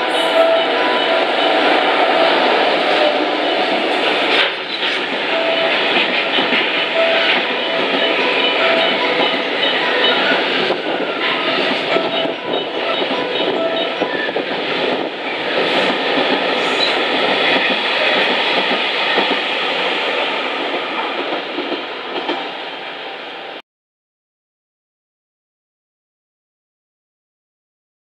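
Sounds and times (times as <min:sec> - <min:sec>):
train wheels rolling on rail: 0:00.0 - 0:23.6.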